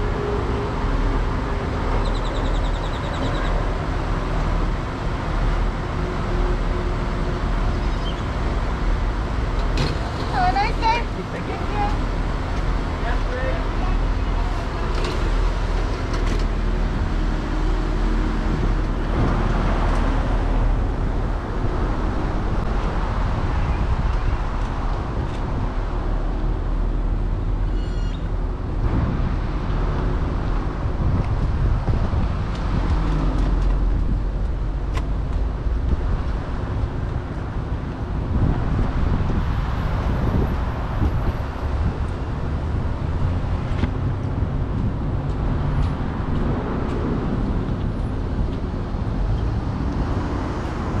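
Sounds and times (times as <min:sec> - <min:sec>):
road noise: 0:00.0 - 0:51.0
vehicle engine rumbling: 0:00.0 - 0:51.0.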